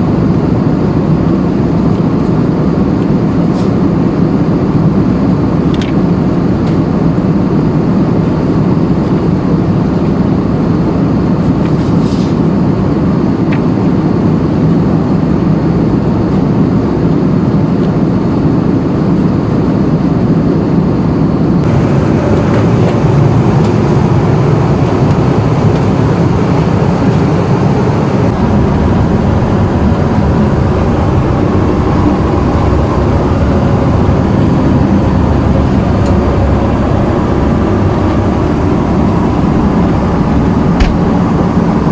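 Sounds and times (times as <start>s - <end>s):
airplane cabin roar: 0.0s - 41.9s.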